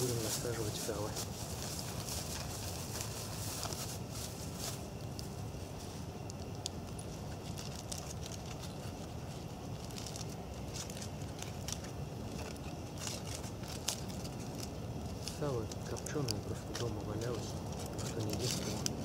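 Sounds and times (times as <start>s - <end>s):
campfire twigs crackling: 0.0s - 19.0s
low background noise: 0.0s - 19.0s.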